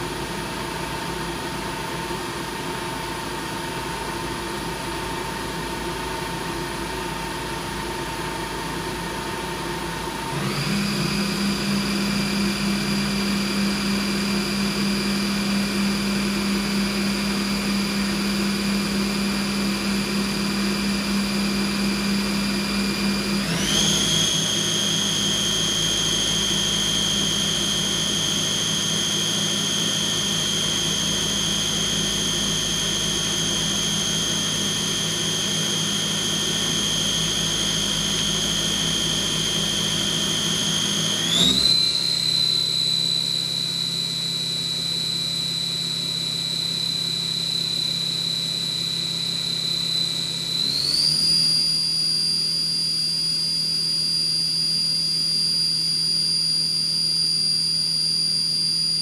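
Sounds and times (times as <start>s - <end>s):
machine spindle high whine: 0.0s - 59.0s.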